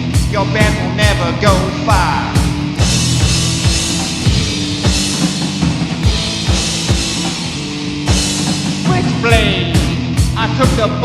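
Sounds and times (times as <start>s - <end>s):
bass line: 0.0s - 11.0s
drum kit playing: 0.0s - 11.0s.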